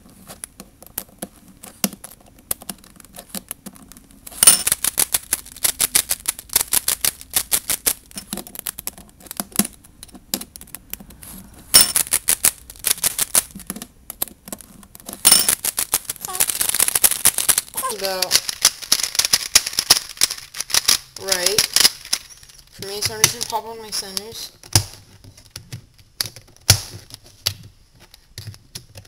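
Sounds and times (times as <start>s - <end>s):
speed cube clicking: 1.8s - 11.2s, 11.8s - 27.1s.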